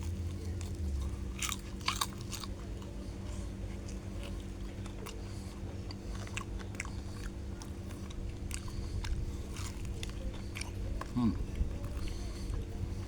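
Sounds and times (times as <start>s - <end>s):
person chewing crunchy fried chicken: 0.0s - 13.0s
steady low hum: 0.0s - 13.0s.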